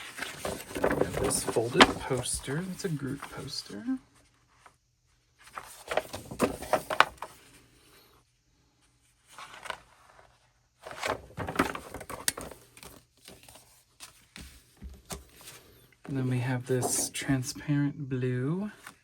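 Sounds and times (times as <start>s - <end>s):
paper poster rustling and crackling: 0.0s - 4.8s, 5.4s - 7.9s, 9.0s - 17.5s.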